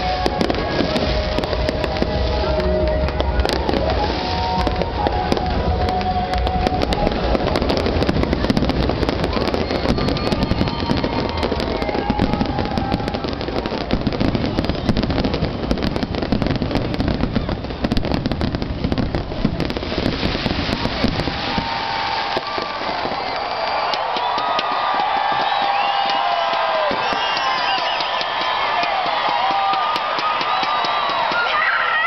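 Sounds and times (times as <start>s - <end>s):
fireworks booming and crackling: 0.0s - 32.0s.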